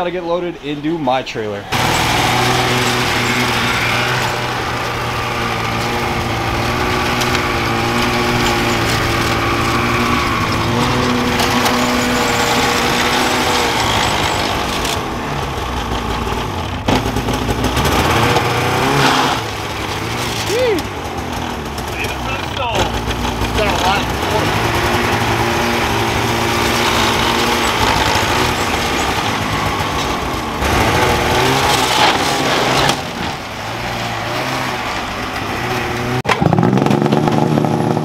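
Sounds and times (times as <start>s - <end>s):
snowmobile engine running: 1.7s - 38.0s.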